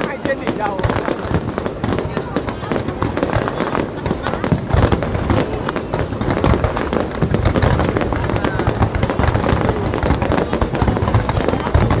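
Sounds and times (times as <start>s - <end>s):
deep fireworks booms: 0.0s - 12.0s
fireworks crackling and banging: 0.0s - 12.0s.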